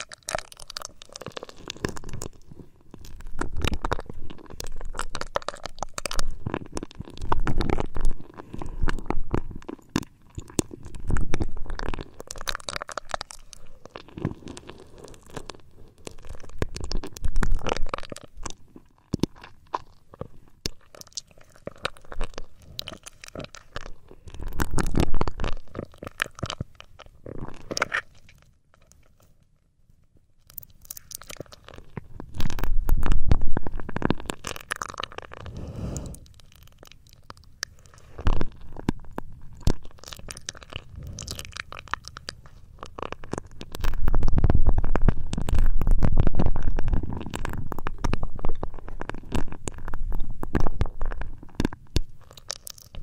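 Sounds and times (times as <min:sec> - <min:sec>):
rubbing and scratching on microphone: 0:00.8 - 0:20.6, 0:21.2 - 0:28.4, 0:31.4 - 0:36.3, 0:37.7 - 0:53.0.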